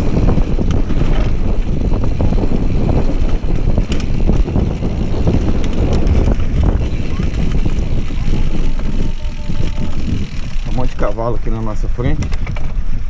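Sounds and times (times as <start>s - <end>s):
bike clicks and rattles: 0.0s - 13.0s
tyres rumbling on dirt trail: 0.0s - 13.0s
wind buffeting microphone: 0.0s - 13.0s.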